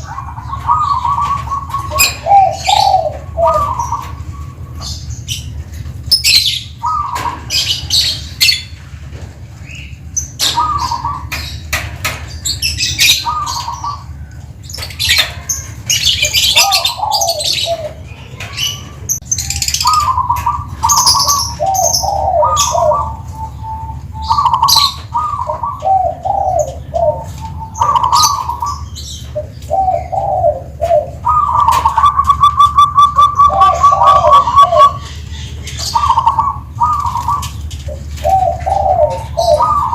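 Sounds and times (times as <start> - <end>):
dove cooing: 0.0 - 8.8, 9.7 - 39.9
small birds chirping: 0.0 - 39.9.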